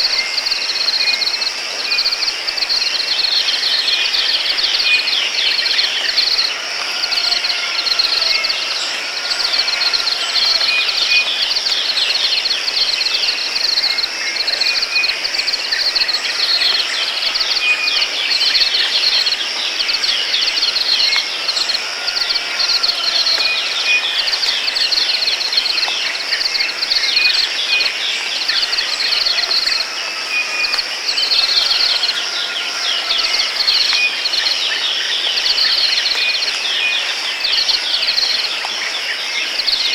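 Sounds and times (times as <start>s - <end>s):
crickets chirping: 0.0s - 39.9s
soft falling insect call: 0.0s - 39.9s.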